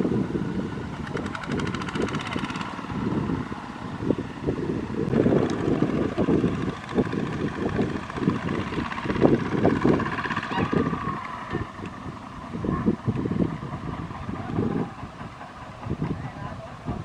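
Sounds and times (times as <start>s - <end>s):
walking tractor engine under load: 0.0s - 17.0s
wind buffeting microphone: 0.0s - 17.0s.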